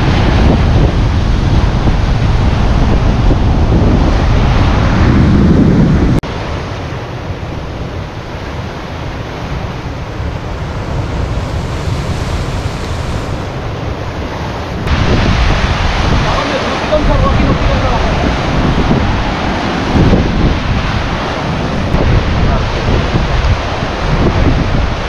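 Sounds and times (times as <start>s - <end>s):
surf breaking over rocks: 0.0s - 25.0s
wind buffeting microphone: 0.0s - 25.0s.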